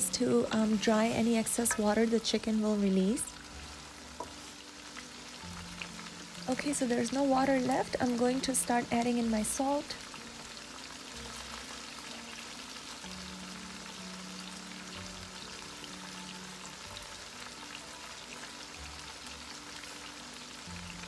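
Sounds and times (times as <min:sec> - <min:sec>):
chicken sizzling in a wok: 0:00.0 - 0:21.0.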